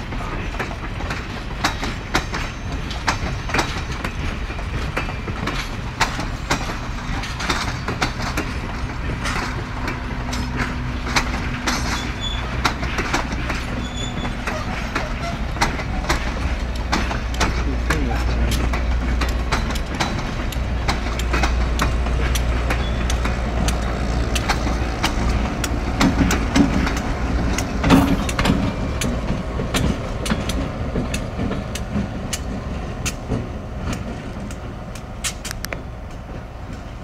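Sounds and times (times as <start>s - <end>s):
diesel locomotive engine: 0.0s - 37.0s
train running noise: 0.0s - 37.0s
sharp wheel clicks on rails: 0.5s - 37.0s.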